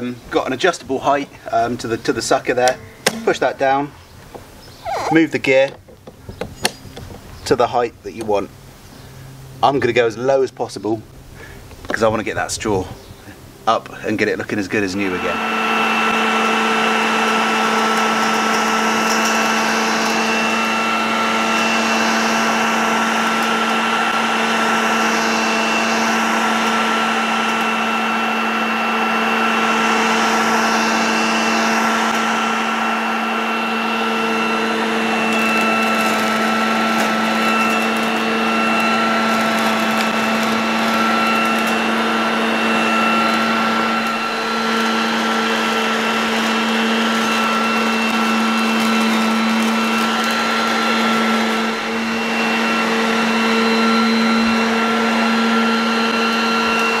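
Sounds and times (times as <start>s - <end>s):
leaf vacuum motor hum and whine: 0.0s - 57.0s.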